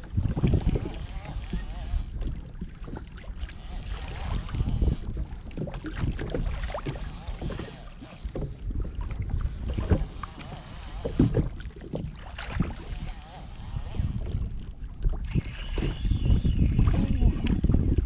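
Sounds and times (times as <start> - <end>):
water against hull: 0.0 - 18.0
wind buffeting microphone: 0.0 - 18.0.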